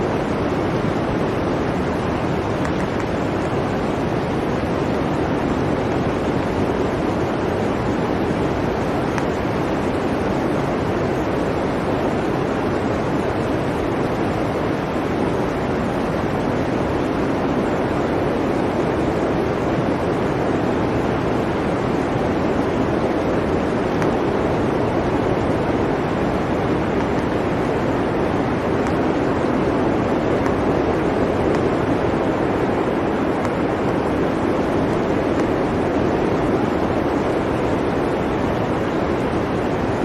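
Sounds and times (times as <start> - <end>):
blizzard wind blowing: 0.0 - 40.0.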